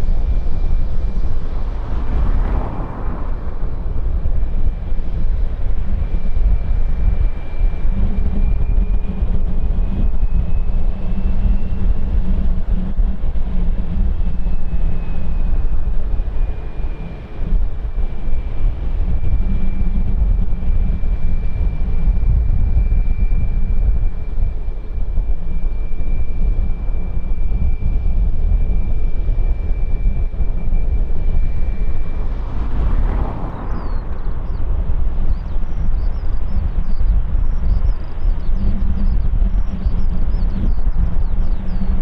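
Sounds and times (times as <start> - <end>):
high engine whine: 0.0 - 42.0
jet engines rumbling: 0.0 - 42.0.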